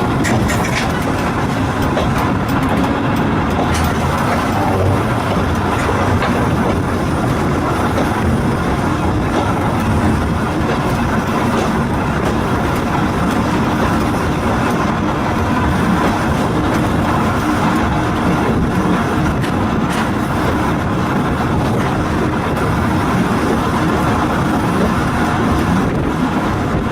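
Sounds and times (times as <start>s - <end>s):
railway car rumbling on track: 0.0s - 26.9s.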